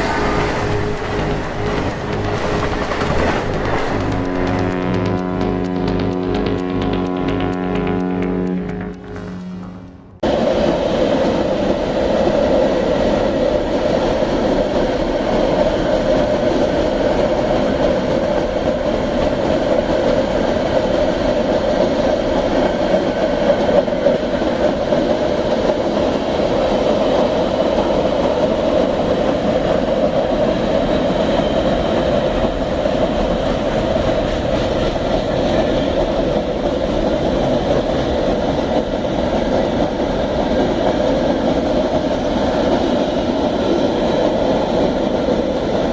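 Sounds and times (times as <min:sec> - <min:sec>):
steel wheels on rails: 0:00.0 - 0:45.9.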